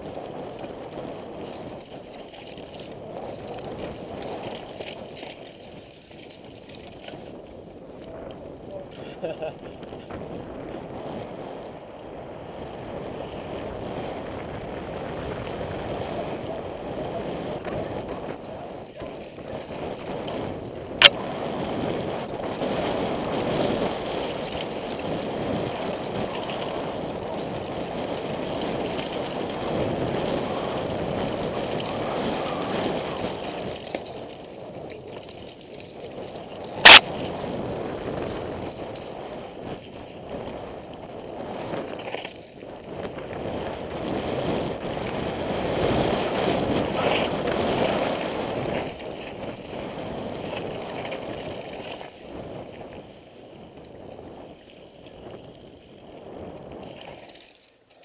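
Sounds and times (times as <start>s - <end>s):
bike tyres rattling on gravel: 0.0s - 58.0s.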